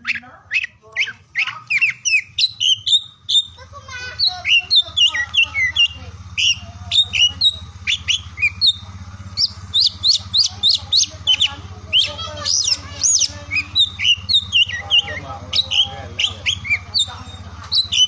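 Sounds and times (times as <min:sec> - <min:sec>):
bird singing: 0:00.0 - 0:18.0
steady low hum: 0:00.0 - 0:18.0.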